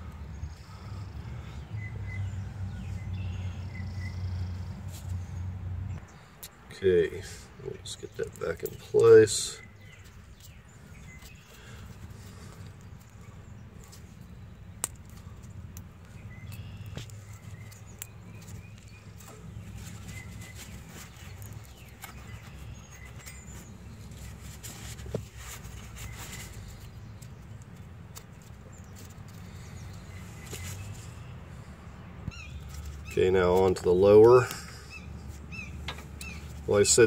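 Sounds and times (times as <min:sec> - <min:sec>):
birds chirping faintly: 0:00.0 - 0:37.0.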